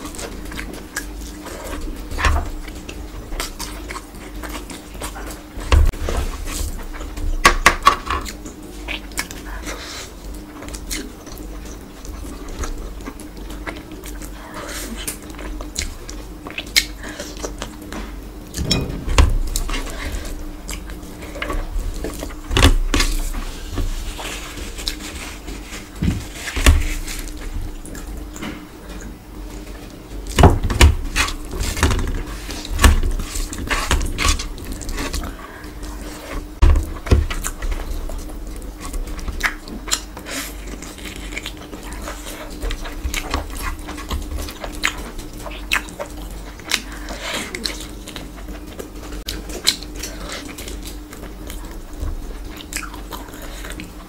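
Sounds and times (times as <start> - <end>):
chewing and smacking: 0.0 - 18.6, 19.8 - 30.4, 31.1 - 54.0.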